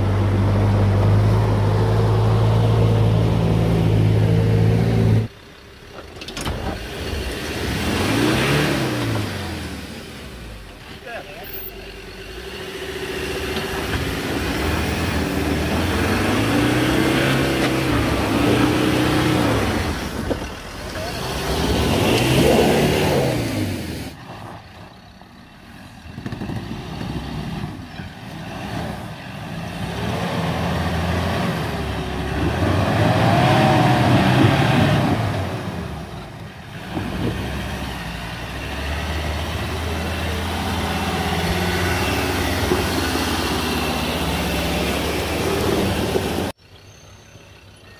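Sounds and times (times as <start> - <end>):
off-road vehicle engines revving: 0.0 - 46.9.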